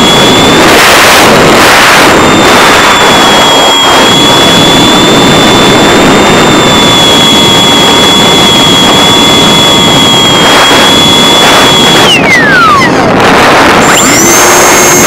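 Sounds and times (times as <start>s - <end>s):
electric motor and propeller whine: 0.0s - 15.0s
wind rush: 0.0s - 15.0s.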